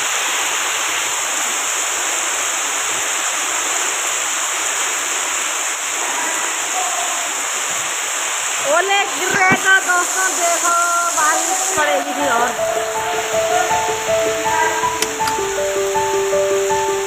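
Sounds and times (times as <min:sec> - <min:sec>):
heavy rain on concrete roof: 0:00.0 - 0:17.0
water running off roof edge: 0:00.0 - 0:17.0.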